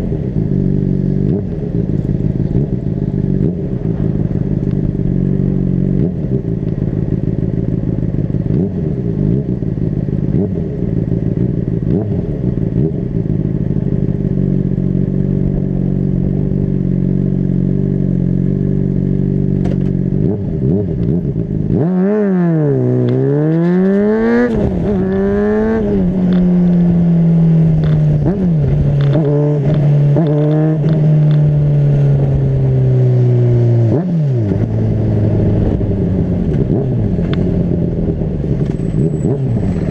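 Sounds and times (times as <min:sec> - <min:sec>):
low wind rumble: 0:00.0 - 0:19.3, 0:20.0 - 0:39.9
motorcycle engine revving: 0:00.0 - 0:39.9.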